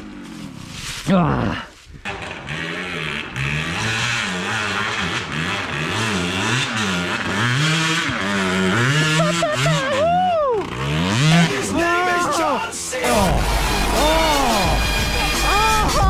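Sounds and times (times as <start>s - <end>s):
dirt bike engine revving: 0.0s - 0.7s, 2.0s - 16.0s.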